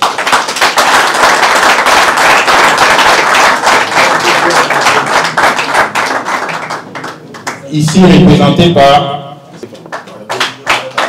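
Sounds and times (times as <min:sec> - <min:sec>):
audience applauding: 0:00.0 - 0:08.4, 0:09.7 - 0:11.0.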